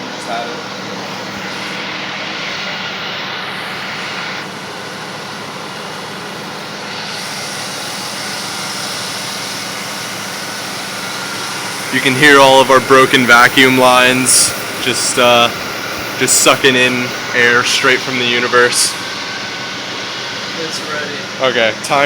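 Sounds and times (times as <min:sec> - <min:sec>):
airy vacuum hiss: 0:00.0 - 0:22.0.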